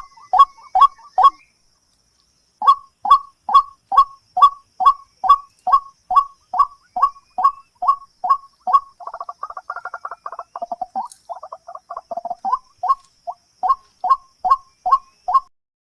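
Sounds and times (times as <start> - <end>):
bird calling: 0.0 - 1.6, 2.6 - 15.5.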